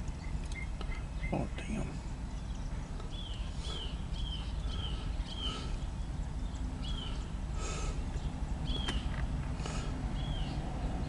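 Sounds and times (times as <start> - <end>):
diesel locomotive rumble: 0.0 - 11.0.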